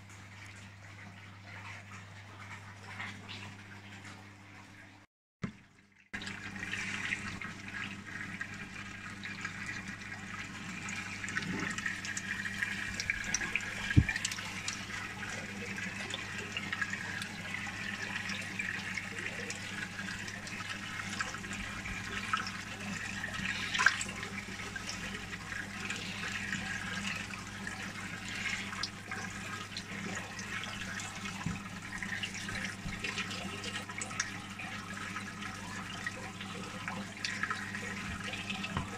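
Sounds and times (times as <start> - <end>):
water splashing into tank: 5.4 - 38.9.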